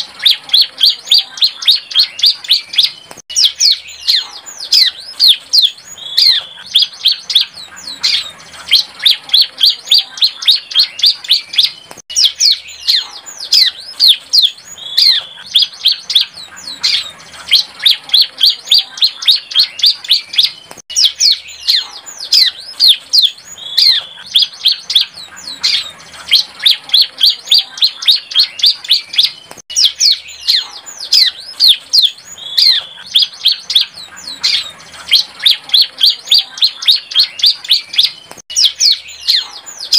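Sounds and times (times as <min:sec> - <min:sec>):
bird singing high sharp notes: 0:00.0 - 0:39.9.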